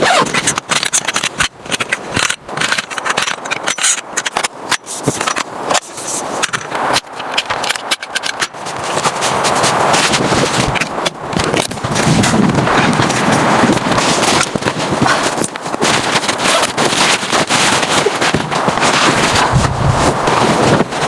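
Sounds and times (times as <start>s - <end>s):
close clicks knocks and scrapes: 0.0s - 21.0s.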